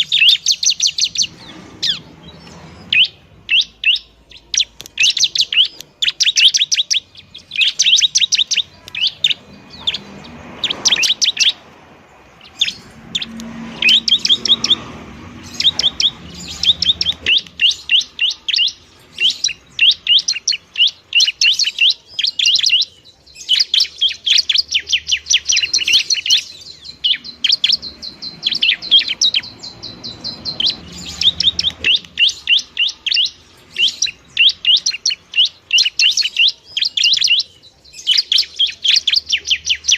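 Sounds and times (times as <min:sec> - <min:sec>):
bird high sharp chirping: 0:00.0 - 0:39.9.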